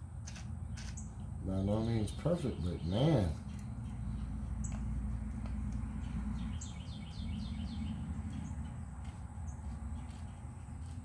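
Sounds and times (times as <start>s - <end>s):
steady low hum: 0.0s - 11.0s
bird chirping: 0.3s - 5.0s, 5.7s - 11.0s.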